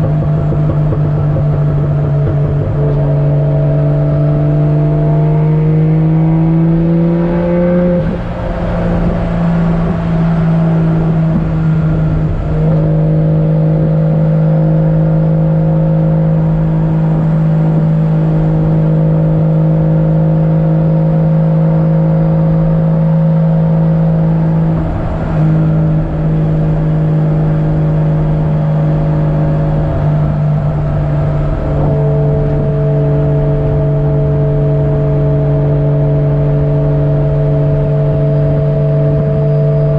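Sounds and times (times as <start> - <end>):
car engine droning at cruise: 0.0 - 39.9.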